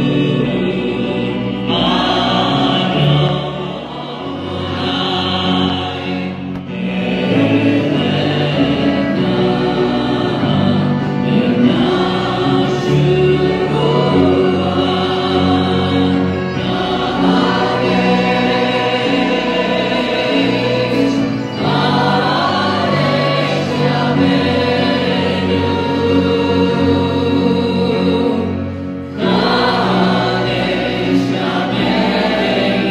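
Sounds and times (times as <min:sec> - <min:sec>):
congregation singing: 0:00.0 - 0:32.9
musical accompaniment: 0:00.0 - 0:32.9.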